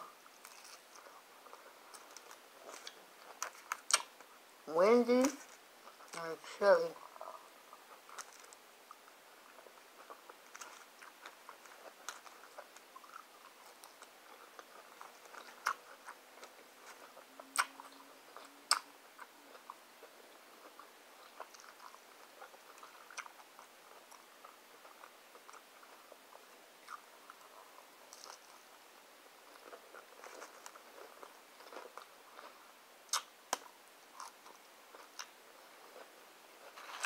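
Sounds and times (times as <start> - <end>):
chewing crunchy taco: 0.2 - 4.3, 7.0 - 37.0.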